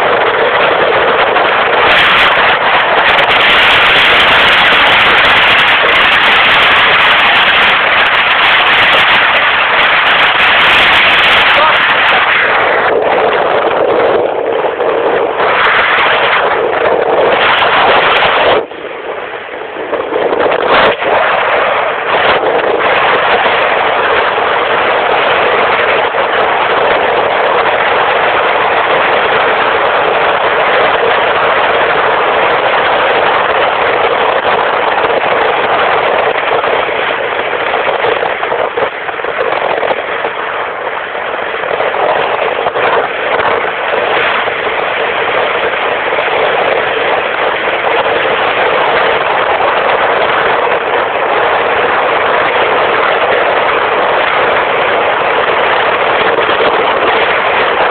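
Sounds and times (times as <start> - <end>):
motorcycles running at speed: 0.0 - 57.9.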